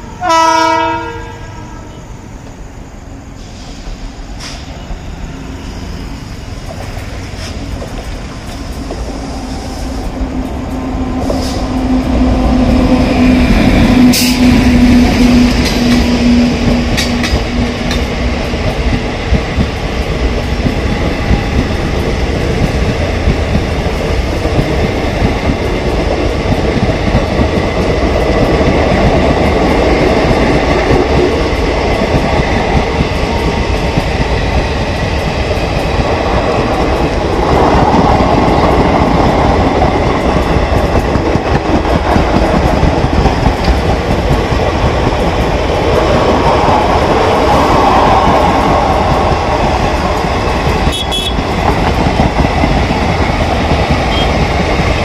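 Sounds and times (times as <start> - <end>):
train wheels rumbling and clattering: 1.7 - 55.0.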